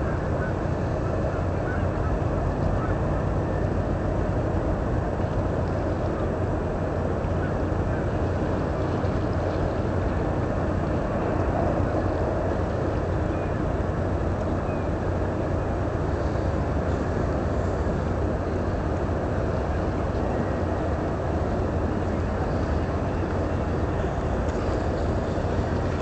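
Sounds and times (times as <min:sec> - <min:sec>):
constant rushing noise: 0:00.0 - 0:26.0
ship engine drone: 0:00.0 - 0:26.0.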